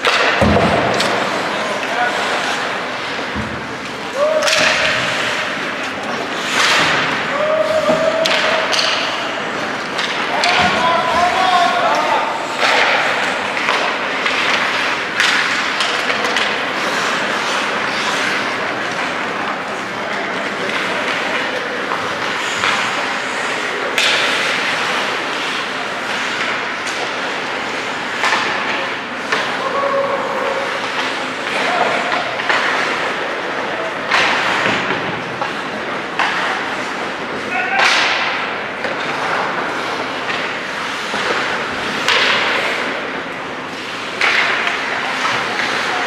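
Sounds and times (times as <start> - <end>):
skate blades scraping ice: 0.0 - 46.0
stick and puck clatter: 0.0 - 46.0.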